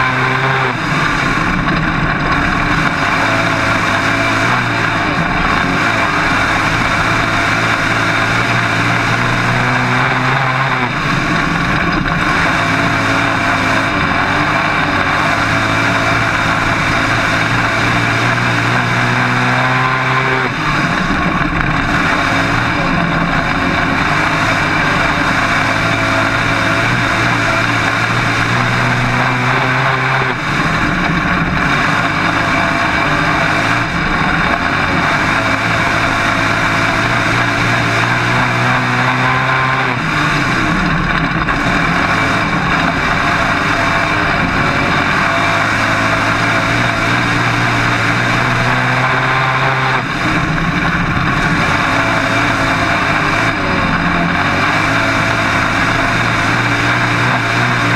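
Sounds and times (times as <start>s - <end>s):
race car engine: 0.0s - 57.9s.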